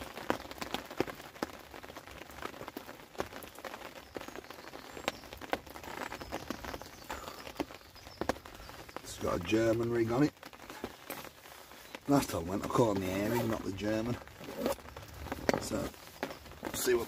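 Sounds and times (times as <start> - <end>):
rain tapping on fabric umbrella: 0.0 - 17.0.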